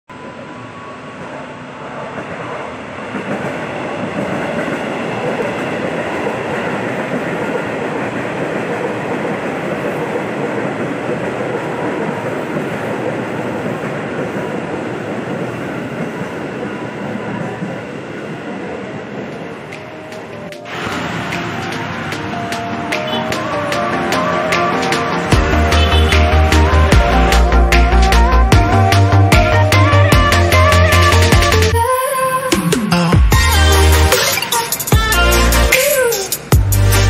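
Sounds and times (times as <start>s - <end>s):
electric train passing on rails: 0.1s - 37.0s.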